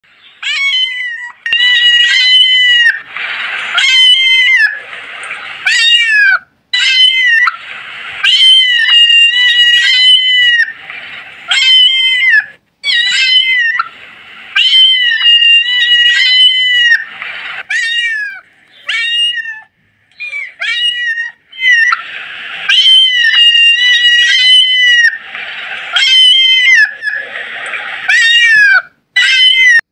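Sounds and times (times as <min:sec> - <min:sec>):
kittens mewing: 0:00.4 - 0:04.8, 0:05.6 - 0:07.6, 0:08.2 - 0:10.8, 0:11.5 - 0:13.9, 0:14.6 - 0:29.9.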